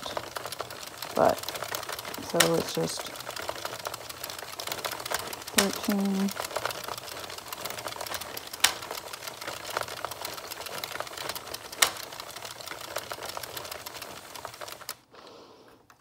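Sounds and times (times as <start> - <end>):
sharp clicks: 0.0 - 15.0
knitting machine clicking and rattling: 0.0 - 16.0.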